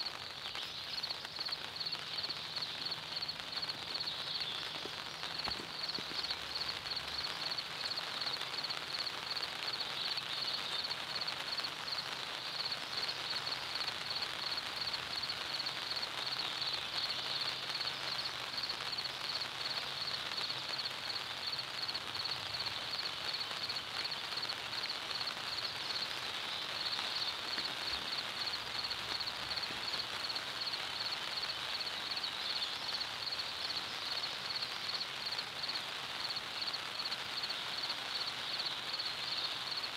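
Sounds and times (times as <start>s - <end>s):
even outdoor hiss: 0.0s - 39.9s.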